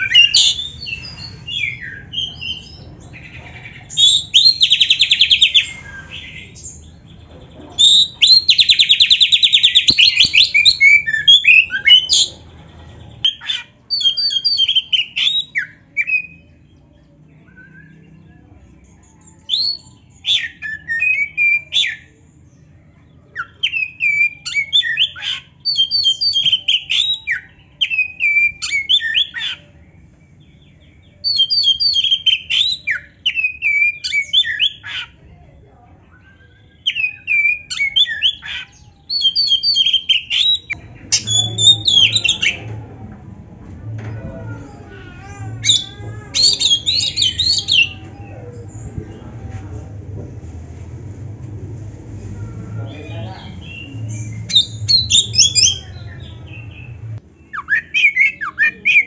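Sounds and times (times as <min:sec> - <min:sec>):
bird singing: 0:00.0 - 0:35.3, 0:36.1 - 0:42.8, 0:44.5 - 0:48.8, 0:52.7 - 0:59.0.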